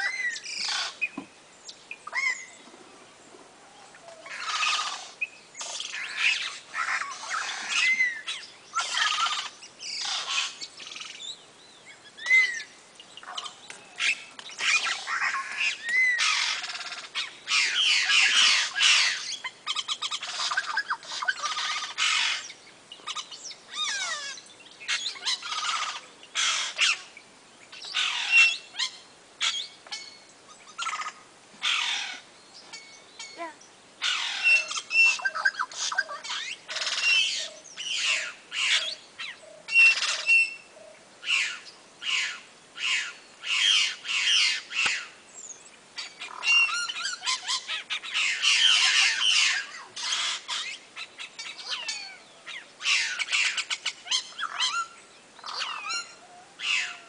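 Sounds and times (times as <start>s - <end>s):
small birds squawking and chirping: 0.0s - 57.0s.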